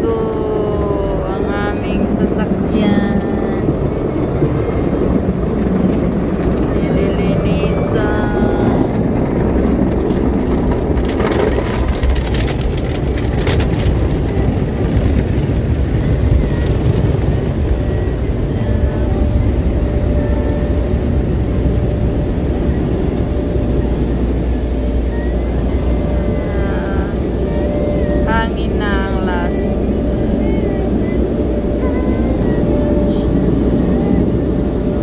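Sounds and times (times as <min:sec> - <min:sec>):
car wash machinery rumble: 0:00.0 - 0:35.0.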